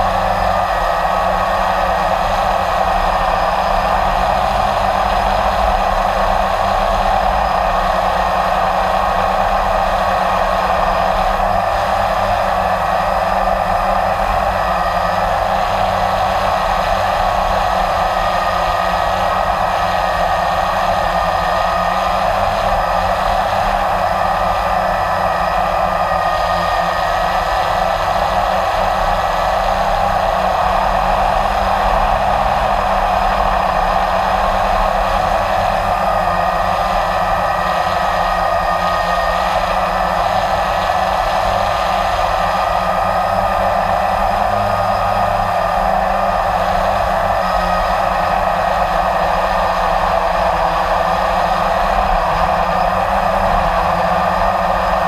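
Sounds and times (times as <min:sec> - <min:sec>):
drone propellers whirring: 0:00.0 - 0:55.0.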